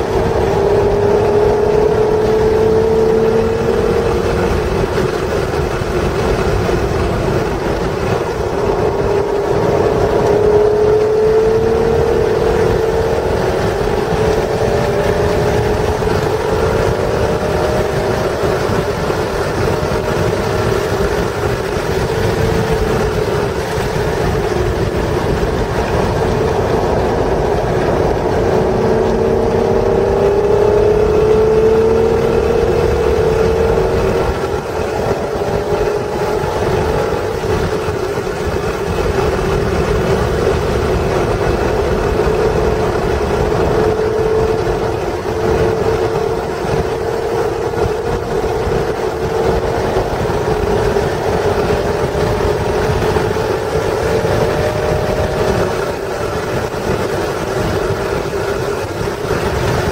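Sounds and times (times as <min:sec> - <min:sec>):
car engine revving: 0:00.0 - 0:59.9
road and tyre noise: 0:00.0 - 0:59.9.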